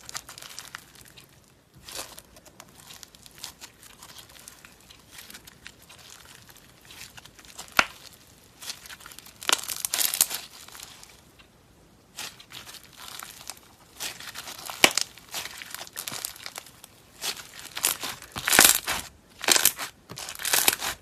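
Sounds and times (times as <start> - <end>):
slime crackling and popping: 0.0 - 21.0.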